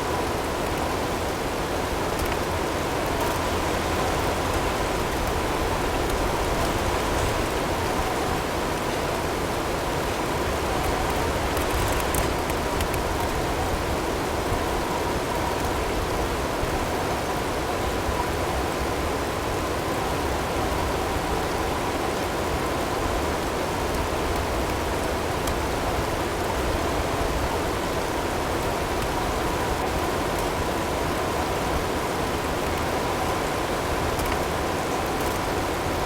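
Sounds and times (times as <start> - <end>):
wind with driven snow and hail: 0.0 - 36.0.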